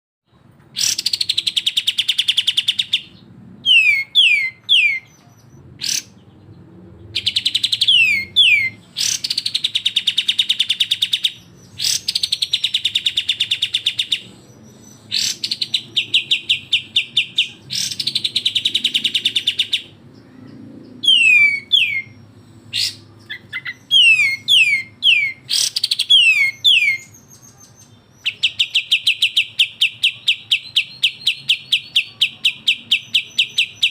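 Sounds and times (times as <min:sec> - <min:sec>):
songbirds calling with rattling trills: 0:00.4 - 0:33.9.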